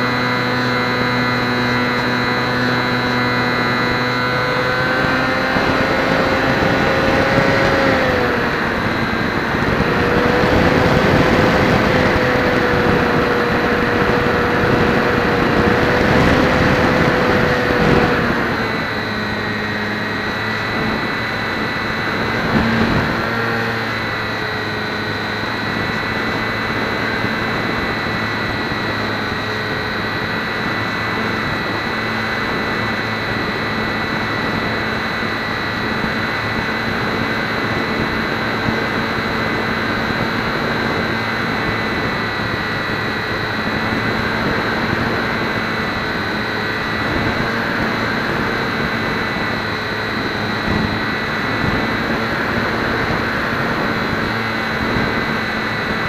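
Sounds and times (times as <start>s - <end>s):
electric motor and propeller running: 0.0s - 56.0s.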